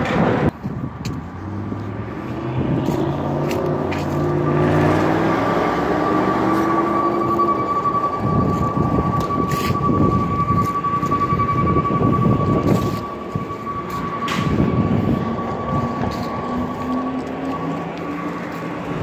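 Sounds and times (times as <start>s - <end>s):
garbage truck engine rumble: 0.0s - 19.0s
vehicle speeding up: 0.0s - 19.0s
high-pitched whine: 2.2s - 19.0s.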